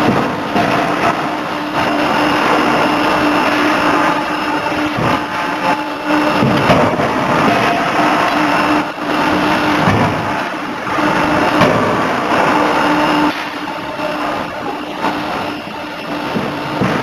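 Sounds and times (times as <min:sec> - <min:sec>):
forging hammer machinery noise: 0:00.0 - 0:17.0.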